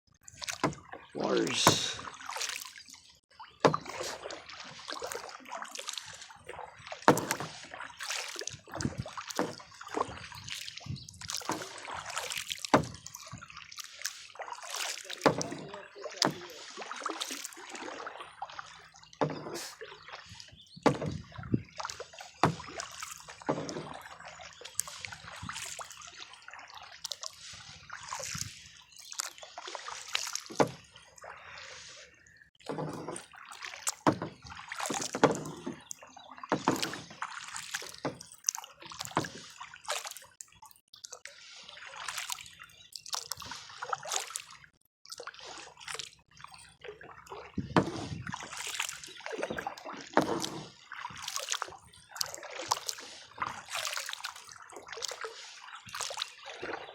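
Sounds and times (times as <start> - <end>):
water dripping and sloshing: 0.1 - 56.9
paddle splashing in water: 0.2 - 56.9.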